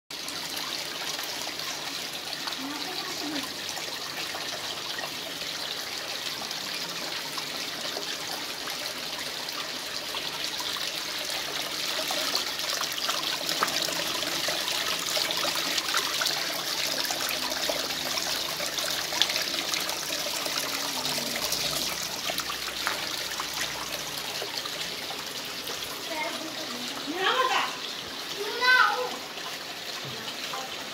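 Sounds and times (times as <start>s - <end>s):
fountain water splashing into basin: 0.1s - 30.9s.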